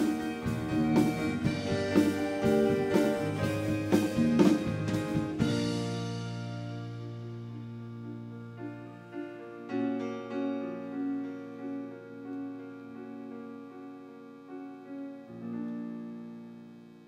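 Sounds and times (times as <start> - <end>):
instrumental music sustained chords: 0.0 - 17.0.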